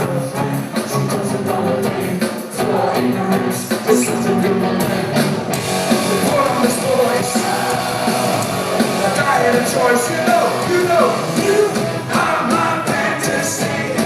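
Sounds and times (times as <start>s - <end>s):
electric guitar: 0.0s - 14.0s
live rock band playing: 0.0s - 14.0s.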